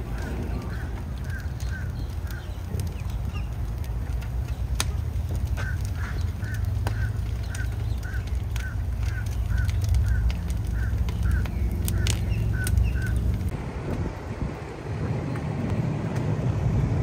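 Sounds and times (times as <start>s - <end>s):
fire popping and cracking: 0.0s - 17.0s
rumble of flames: 0.0s - 17.0s
wind: 0.0s - 17.0s.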